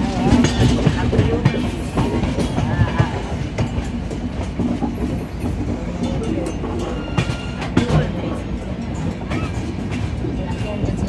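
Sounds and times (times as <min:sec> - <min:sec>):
train coaches rumbling: 0:00.0 - 0:11.0
wheels clattering over rail joints: 0:00.0 - 0:11.0.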